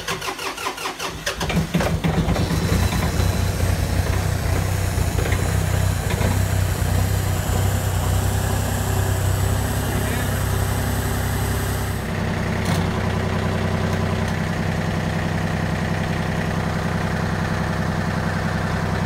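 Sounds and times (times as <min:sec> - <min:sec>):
diesel engine cranking: 0:00.0 - 0:19.0
diesel engine idling: 0:00.0 - 0:19.0.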